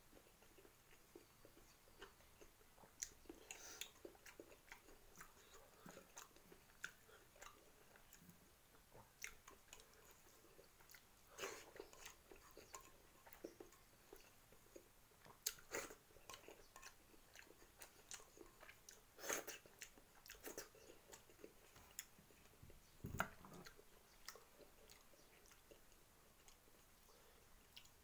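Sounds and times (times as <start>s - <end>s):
close-up chewing: 0.1s - 28.0s.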